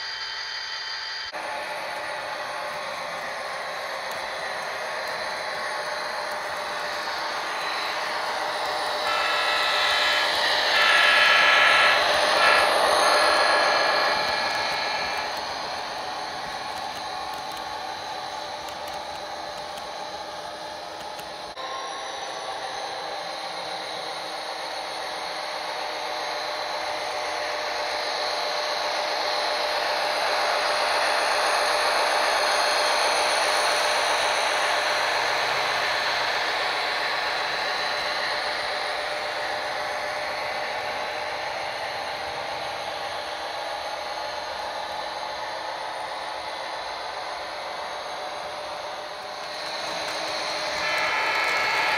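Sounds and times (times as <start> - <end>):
model train motor whirring: 0.0 - 51.9.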